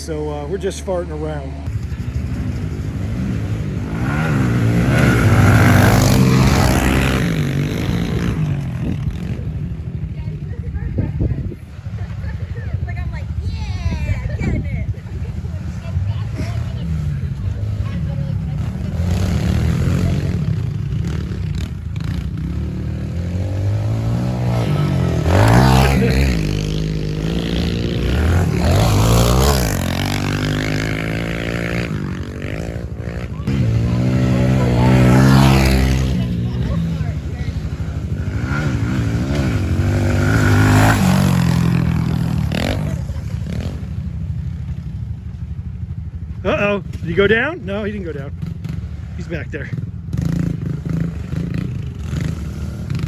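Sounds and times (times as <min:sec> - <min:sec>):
pit bike engines revving: 0:00.0 - 0:53.0.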